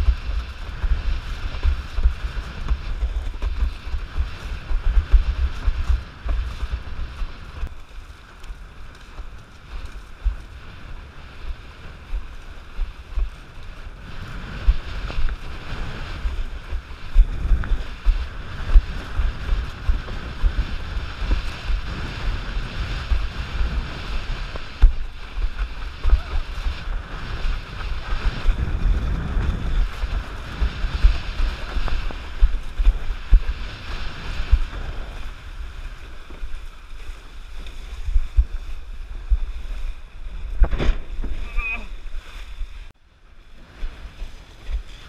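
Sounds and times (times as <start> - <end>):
water rushing and splashing: 0.0 - 45.0
wind buffeting microphone: 0.0 - 45.0.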